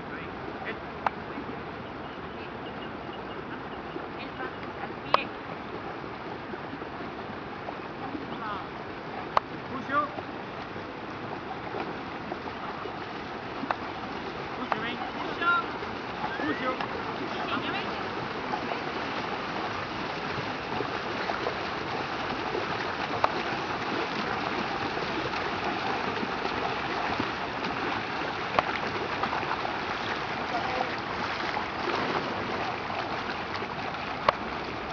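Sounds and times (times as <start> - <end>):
paddles splashing water: 0.0 - 34.9.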